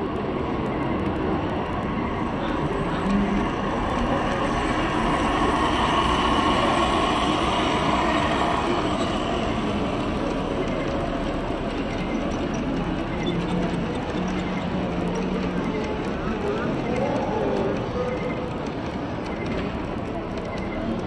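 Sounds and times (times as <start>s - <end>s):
model trains running: 0.0s - 21.0s.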